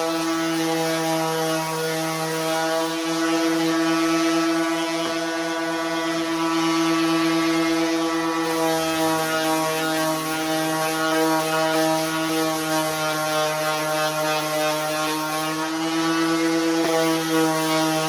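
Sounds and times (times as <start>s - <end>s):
orbital sander on wood: 0.0s - 18.0s.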